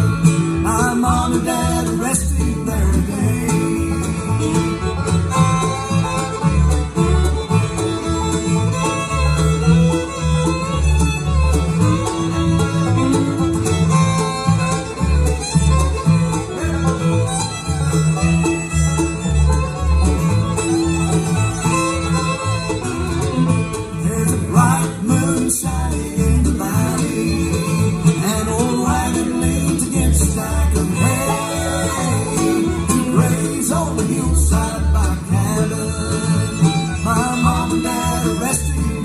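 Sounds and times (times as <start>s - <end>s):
acoustic guitar: 0.0s - 39.0s
banjo: 0.0s - 39.0s
fiddle: 0.0s - 39.0s
mandolin: 0.0s - 39.0s
upright bass: 0.0s - 39.0s.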